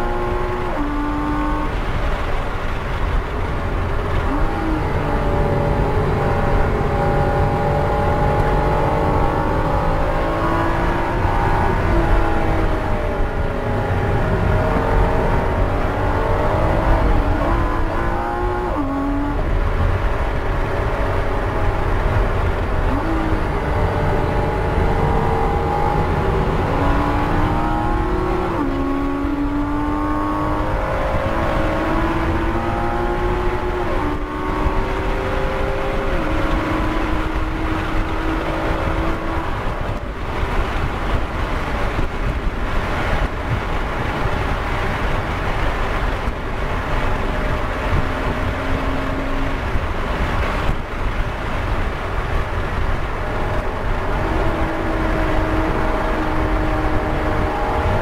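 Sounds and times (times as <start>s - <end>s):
car engine at high revs: 0.0s - 58.0s
tyre and wind rush: 0.5s - 58.0s.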